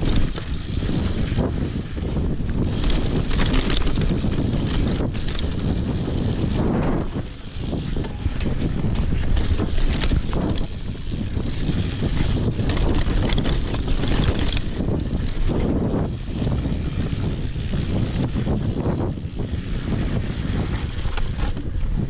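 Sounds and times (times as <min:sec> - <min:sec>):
mountain bike clattering over rocks: 0:00.0 - 0:01.8, 0:02.6 - 0:21.8
bike chain rattling: 0:00.0 - 0:22.0
wind on microphone: 0:00.0 - 0:22.0.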